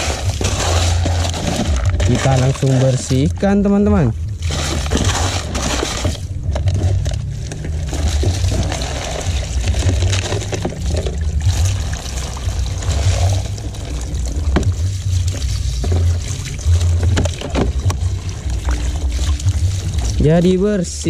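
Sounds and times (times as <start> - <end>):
hose water splashing on plastic: 0.0 - 21.0
low rumble: 0.0 - 21.0.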